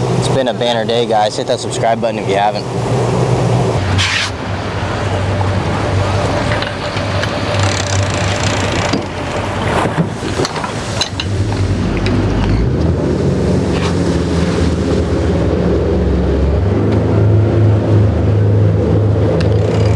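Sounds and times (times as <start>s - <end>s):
boat engine idling: 0.0s - 19.9s
wind buffeting microphone: 0.0s - 19.9s.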